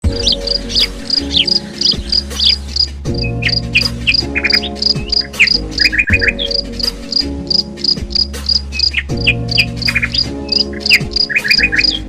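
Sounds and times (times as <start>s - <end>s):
birds chirping: 0.0s - 12.0s
soft music of low chords: 0.0s - 12.0s
insects chirping: 0.1s - 12.0s.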